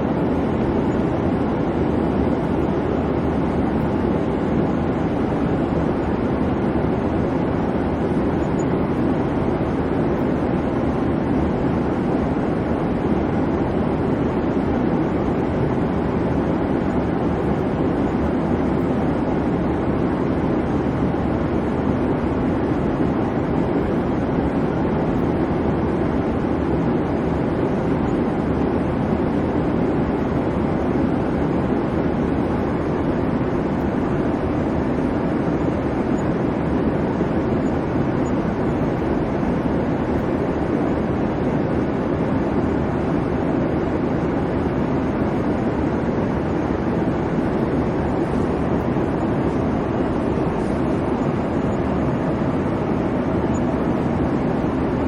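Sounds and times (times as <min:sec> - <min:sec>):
airliner cabin engine hum: 0:00.0 - 0:55.0.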